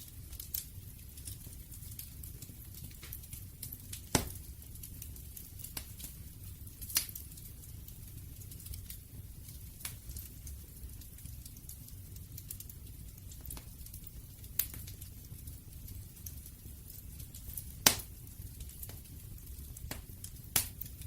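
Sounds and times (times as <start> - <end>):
campfire burning: 0.0 - 21.0
wood popping and crackling: 0.0 - 21.0.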